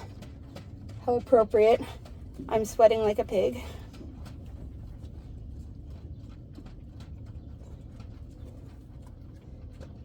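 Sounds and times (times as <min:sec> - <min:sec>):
piglets panting: 0:00.0 - 0:10.0.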